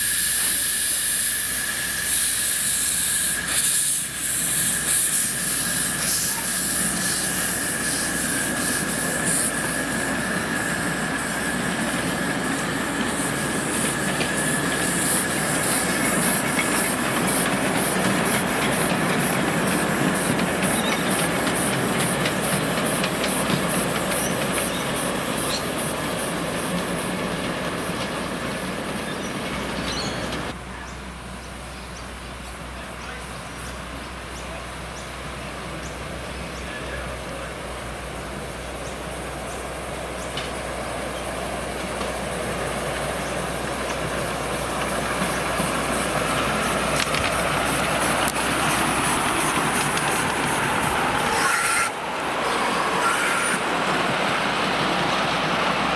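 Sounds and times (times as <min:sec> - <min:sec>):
steam hissing: 0:00.0 - 0:30.6, 0:33.2 - 0:55.9
steam locomotive chuffing beat: 0:00.0 - 0:30.6, 0:37.1 - 0:55.9.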